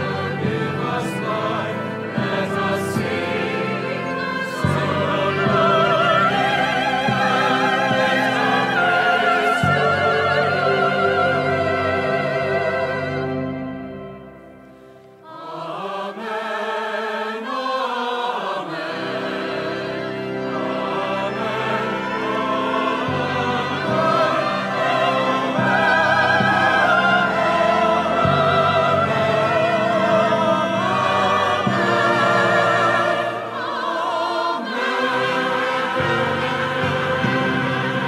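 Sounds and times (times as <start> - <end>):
choir singing a hymn: 0.0 - 38.0
sustained instrumental accompaniment: 0.0 - 38.0.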